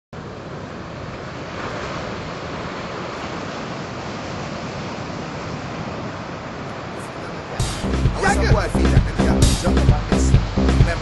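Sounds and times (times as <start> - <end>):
waves breaking on shore: 0.2 - 11.0.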